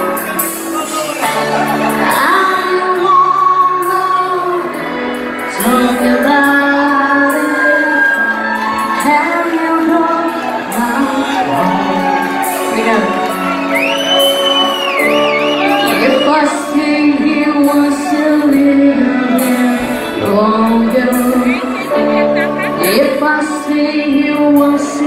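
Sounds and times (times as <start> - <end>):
lead singer holding long notes: 0.0 - 25.0
live band playing: 0.0 - 25.0.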